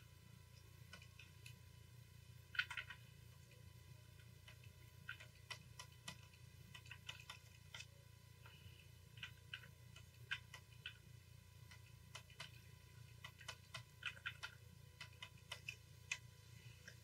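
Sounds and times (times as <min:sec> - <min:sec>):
low steady hum: 0:00.0 - 0:17.0
mouse and keyboard clicks: 0:00.5 - 0:01.6, 0:02.4 - 0:17.0.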